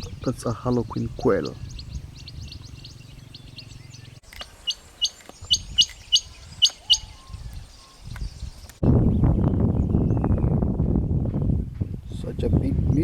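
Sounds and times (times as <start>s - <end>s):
birds twittering: 0.0s - 10.6s.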